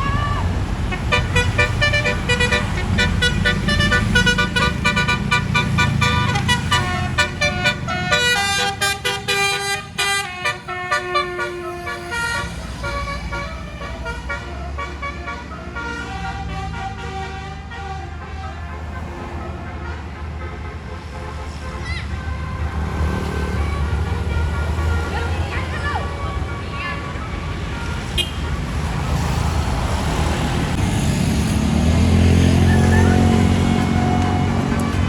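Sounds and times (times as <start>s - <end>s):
bus horn playing a melody: 0.7s - 29.1s.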